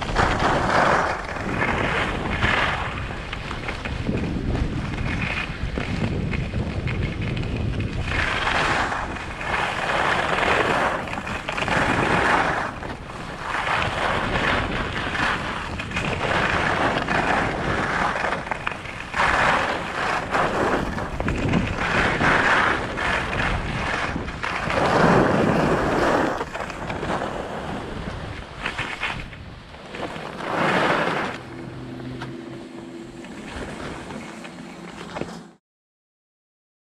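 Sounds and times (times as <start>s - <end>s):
skis scraping on snow: 0.0s - 35.6s
wind buffeting microphone: 0.0s - 35.6s.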